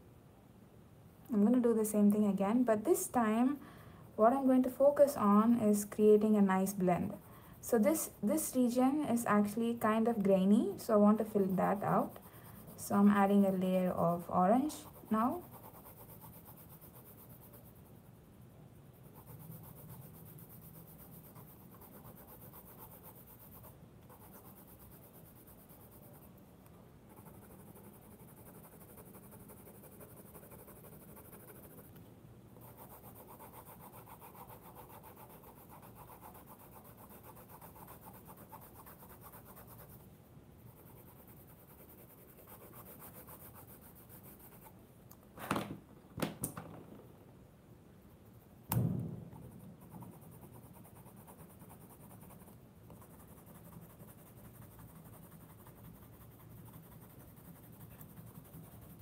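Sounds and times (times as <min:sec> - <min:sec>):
coloured pencil scratching paper: 0:04.2 - 0:18.2, 0:18.9 - 0:26.4, 0:27.1 - 0:32.0, 0:32.6 - 0:44.8, 0:49.4 - 0:59.0.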